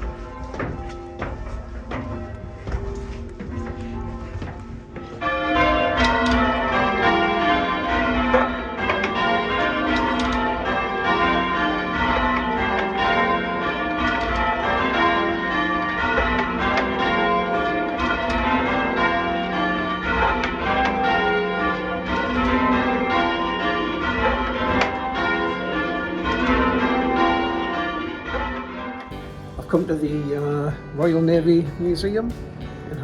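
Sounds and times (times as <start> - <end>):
church bells change ringing: 0.0 - 33.0.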